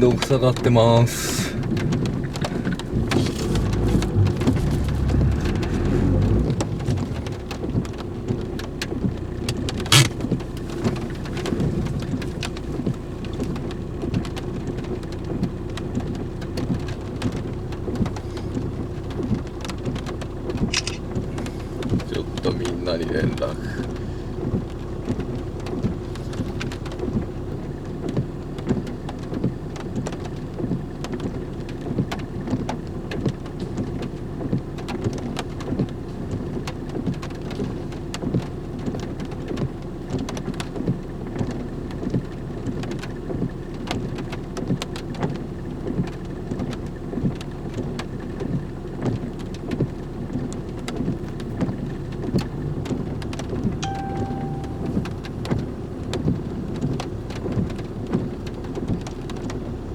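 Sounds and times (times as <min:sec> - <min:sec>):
idling engine hum: 0:00.0 - 0:59.9
rain pattering: 0:00.0 - 0:59.9.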